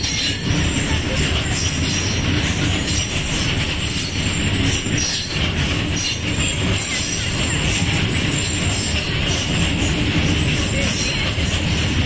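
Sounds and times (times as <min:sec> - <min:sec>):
freight wagons rolling on rails: 0:00.0 - 0:12.0.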